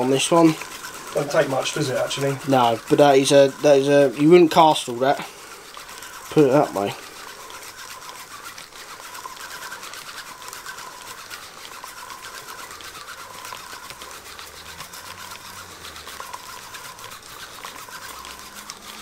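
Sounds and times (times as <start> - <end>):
spinning reel whirring and ticking: 0.0 - 19.0.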